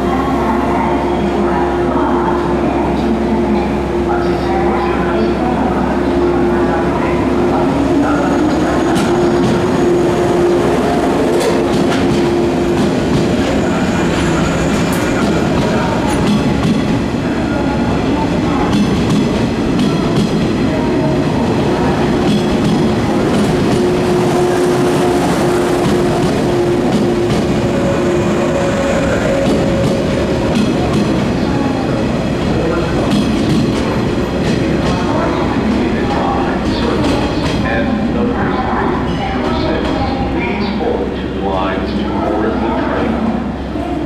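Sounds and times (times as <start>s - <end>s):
electric train rumbling: 0.0s - 44.0s.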